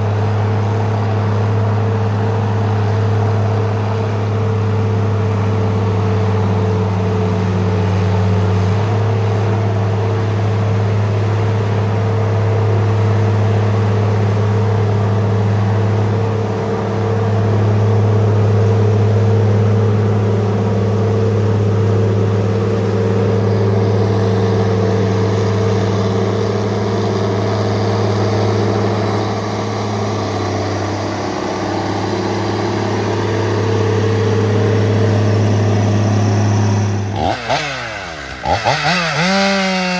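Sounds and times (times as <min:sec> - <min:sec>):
heavy machine engine running: 0:00.0 - 0:39.9.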